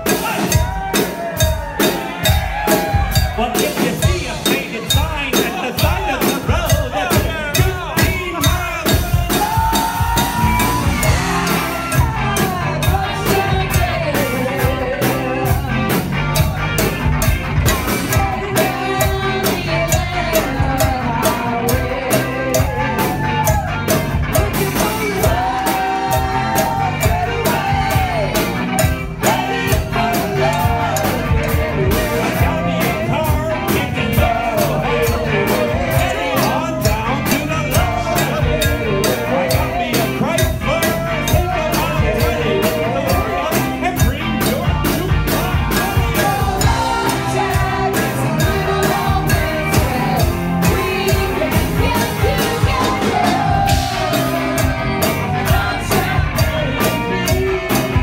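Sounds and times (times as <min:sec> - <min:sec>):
person singing: 0:00.0 - 0:17.0, 0:17.6 - 0:58.0
cowbell struck in rhythm: 0:00.0 - 0:58.0
drums: 0:00.0 - 0:58.0
electric guitar: 0:00.0 - 0:58.0.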